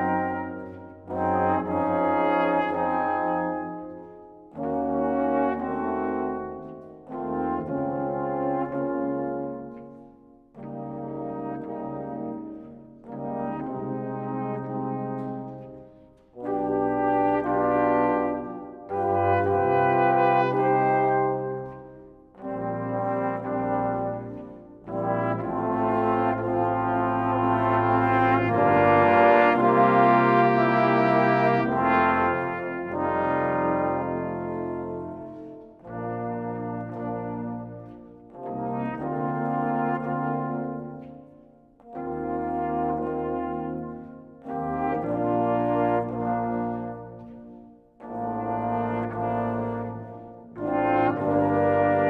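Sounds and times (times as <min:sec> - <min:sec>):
brass ensemble playing: 0:00.0 - 0:52.0.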